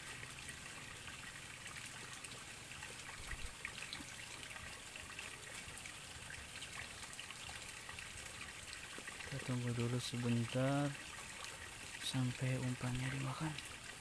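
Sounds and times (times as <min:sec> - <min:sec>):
faint trickling water: 0:00.0 - 0:14.0.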